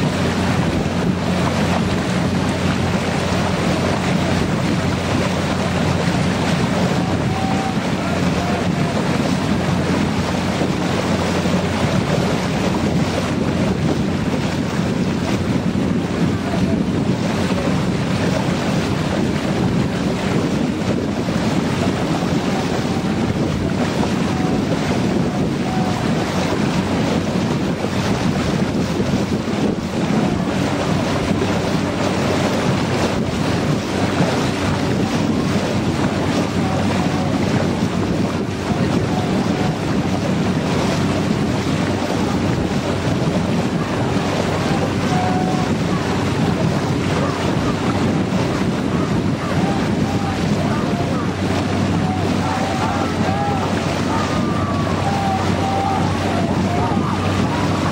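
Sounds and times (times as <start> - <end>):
boat engine humming: 0.0 - 57.9
water rushing past hull: 0.0 - 57.9
wind buffeting microphone: 0.0 - 57.9.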